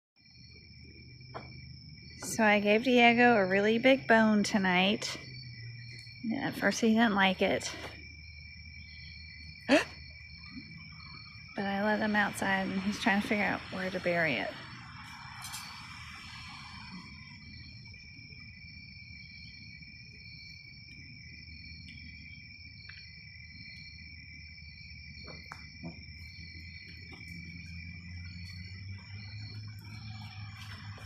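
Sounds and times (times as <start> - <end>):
crickets chirping: 0.2 - 31.0.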